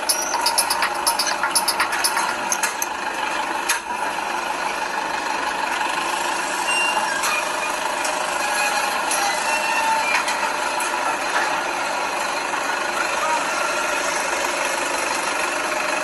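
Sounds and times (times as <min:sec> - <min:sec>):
vehicle and street noise: 0:00.0 - 0:16.0.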